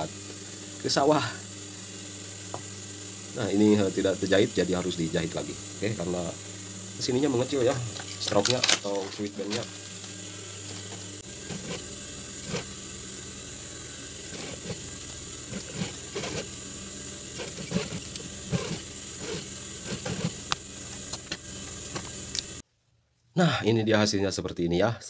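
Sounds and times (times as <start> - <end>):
sewing machine motor hum: 0.0 - 22.6.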